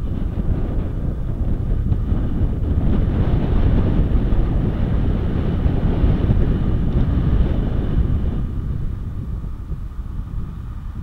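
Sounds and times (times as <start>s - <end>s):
road and engine noise: 0.0s - 11.0s
wind rushing over microphone: 0.0s - 11.0s.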